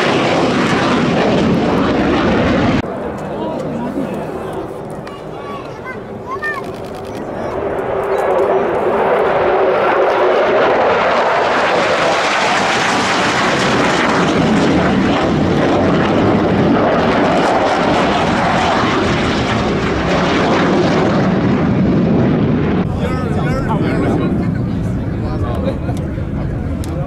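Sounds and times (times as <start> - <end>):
fighter jets passing low: 0.0 - 27.0.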